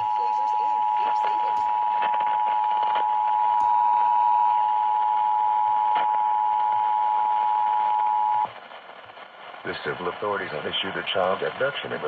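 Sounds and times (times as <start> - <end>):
faint radio audio: 0.0 - 12.0.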